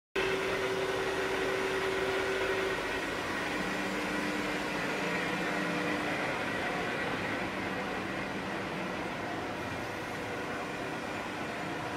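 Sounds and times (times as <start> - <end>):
machinery hum and whine: 0.2 - 11.9.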